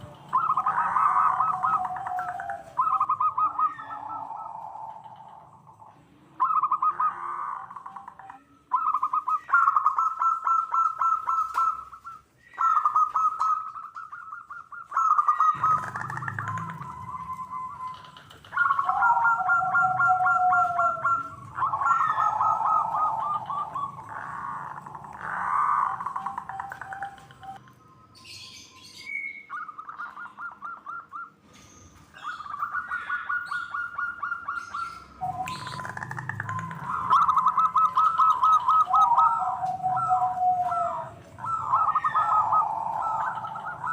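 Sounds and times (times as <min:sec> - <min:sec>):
doves cooing trilled notes: 0:00.0 - 0:43.9.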